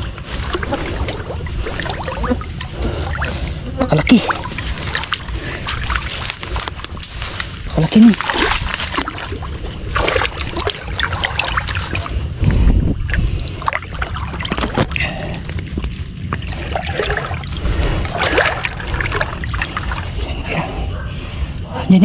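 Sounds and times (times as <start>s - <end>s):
muddy water sloshing and splashing: 0.0s - 21.6s.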